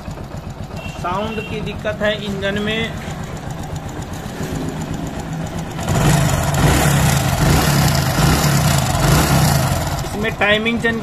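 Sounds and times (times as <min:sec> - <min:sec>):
motorcycle engine rattling: 0:00.0 - 0:11.0.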